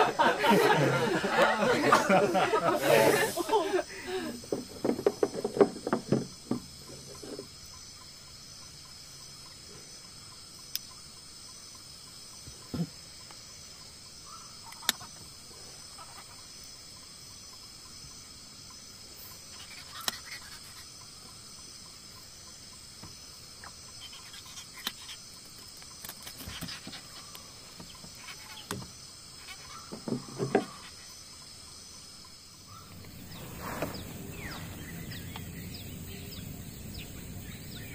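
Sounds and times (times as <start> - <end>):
crickets trilling: 0.0 - 37.9.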